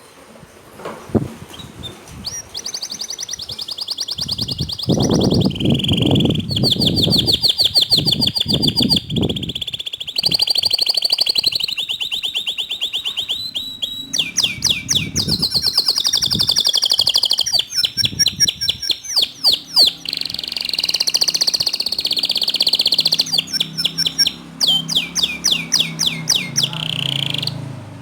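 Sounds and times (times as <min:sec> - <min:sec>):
canary singing trills: 0:01.5 - 0:27.8.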